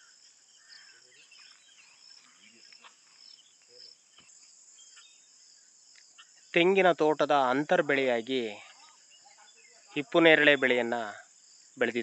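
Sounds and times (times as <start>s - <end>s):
faint chirps: 0.0s - 12.0s
high-pitched insect chorus: 0.0s - 12.0s.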